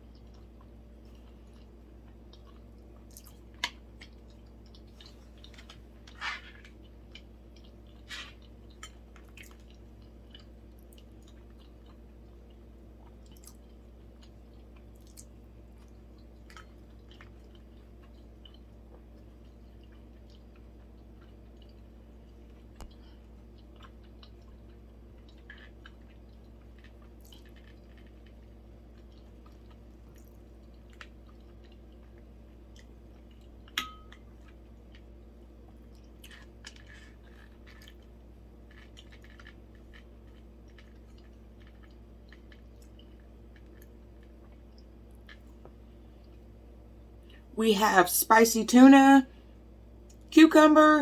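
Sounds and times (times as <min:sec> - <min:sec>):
wet chewing sounds: 0:00.0 - 0:47.5.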